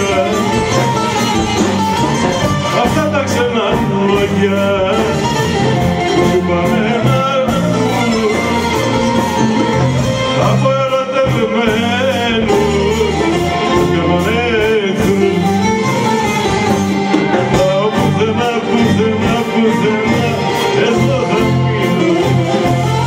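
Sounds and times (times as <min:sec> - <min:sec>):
man singing into a microphone: 0:00.0 - 0:01.6, 0:02.3 - 0:23.0
bouzoukis playing: 0:00.0 - 0:23.0
electric bass: 0:00.0 - 0:23.0.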